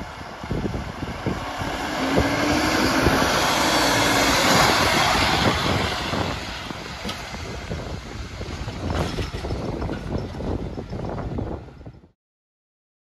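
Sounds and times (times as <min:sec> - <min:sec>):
fire engine driving past: 0:00.0 - 0:11.8.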